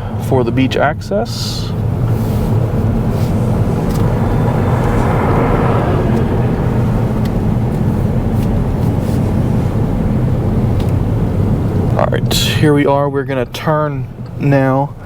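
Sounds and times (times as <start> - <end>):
car road noise rumble: 0.0 - 15.0.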